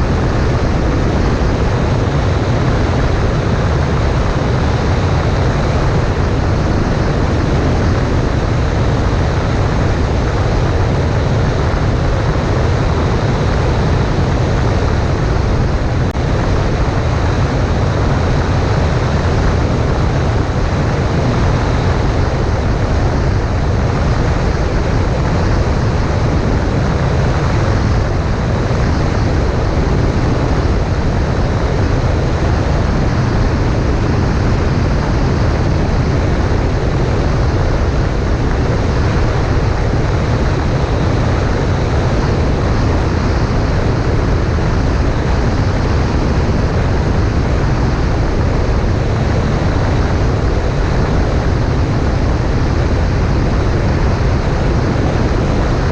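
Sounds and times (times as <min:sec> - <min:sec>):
light plane engine droning: 0:00.0 - 0:55.9
rushing wind noise: 0:00.0 - 0:55.9.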